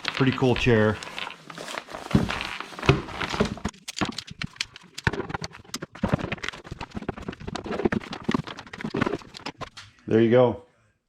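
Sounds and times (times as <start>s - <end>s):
rustling: 0.0s - 9.8s.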